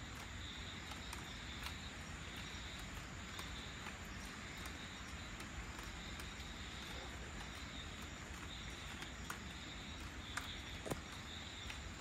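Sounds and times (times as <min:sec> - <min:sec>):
faint ticks: 0:00.0 - 0:12.0
night insects trilling: 0:00.0 - 0:12.0
rain hiss: 0:00.0 - 0:12.0.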